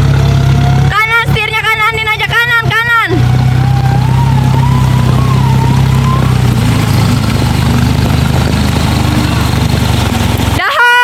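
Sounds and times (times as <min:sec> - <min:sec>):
vehicle engine running at low revs: 0:00.0 - 0:10.8.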